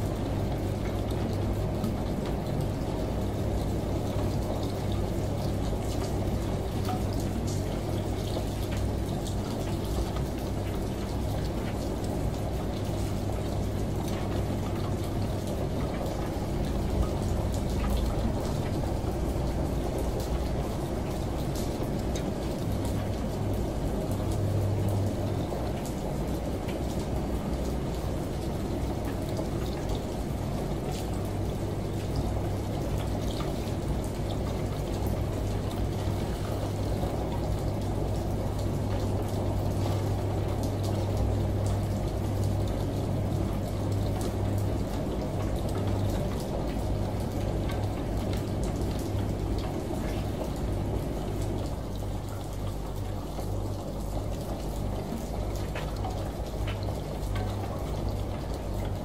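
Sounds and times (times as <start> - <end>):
faint drips: 0.3 - 59.0.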